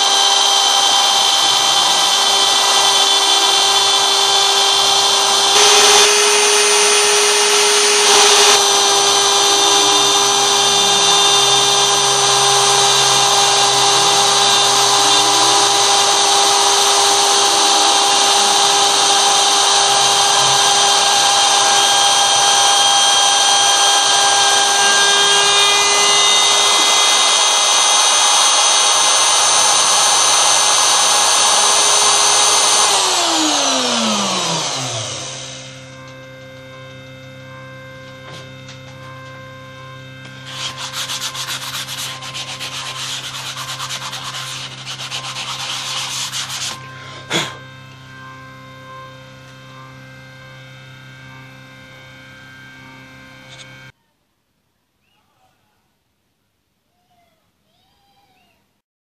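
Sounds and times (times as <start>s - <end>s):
stepper motors whining: 0.0s - 53.9s
router cutting wood: 0.0s - 54.0s.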